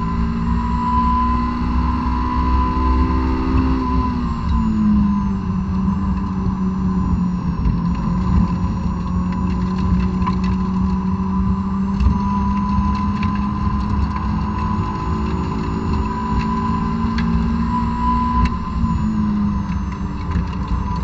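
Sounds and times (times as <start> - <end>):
car engine revving: 0.0 - 21.0
road and wind noise: 0.0 - 21.0.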